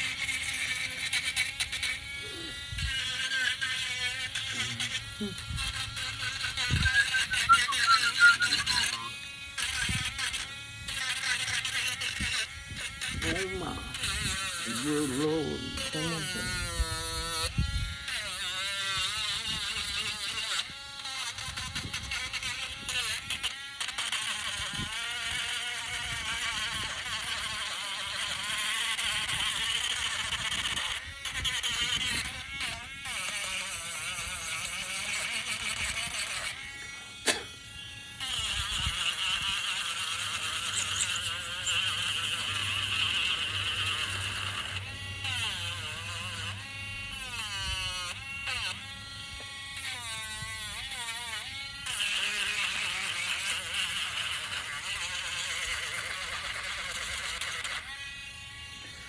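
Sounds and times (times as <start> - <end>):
electric sander on wood: 0.0 - 59.0.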